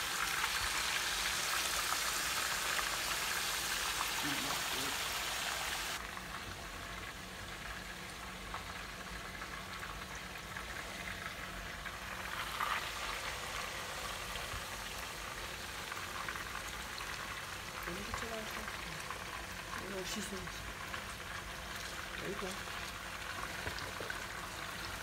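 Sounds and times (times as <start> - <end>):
chicken sizzling in hot oil: 0.0 - 25.0.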